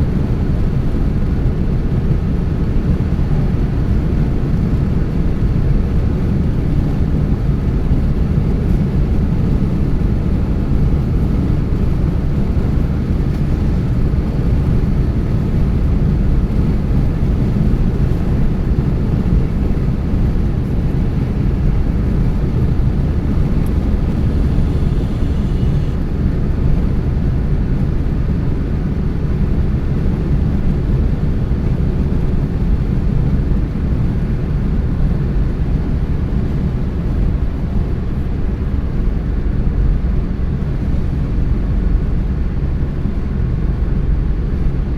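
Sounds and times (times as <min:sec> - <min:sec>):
car driving rumble: 0:00.1 - 0:44.7.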